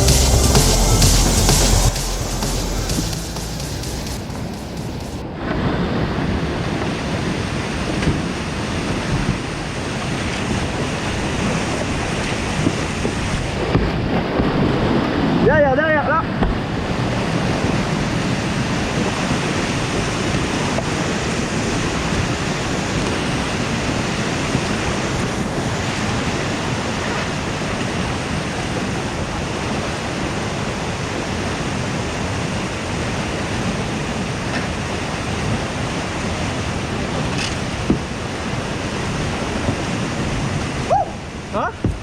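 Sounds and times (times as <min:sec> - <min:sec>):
whitewater rushing over rocks: 0:00.0 - 0:42.0.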